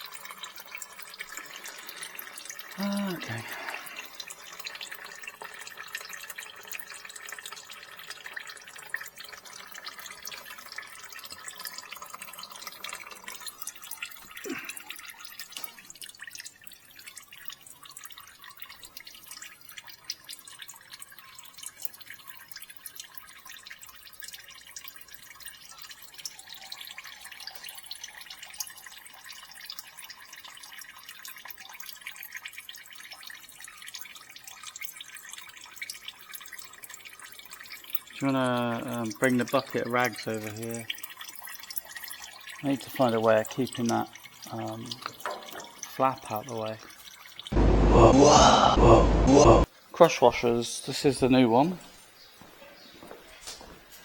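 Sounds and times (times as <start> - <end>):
oil trickling and dripping: 0.0 - 47.6, 49.6 - 54.0.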